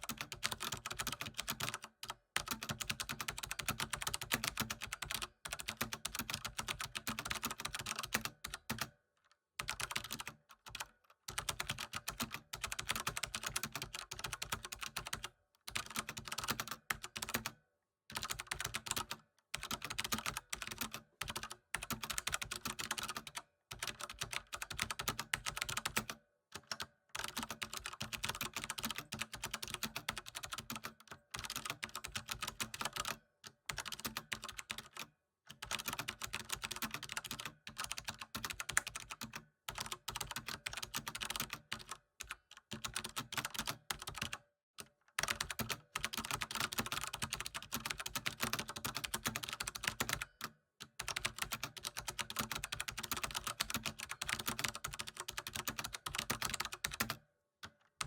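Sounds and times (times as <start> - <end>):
fast typing on keyboard: 0.0 - 8.9, 9.6 - 44.4, 45.2 - 57.8.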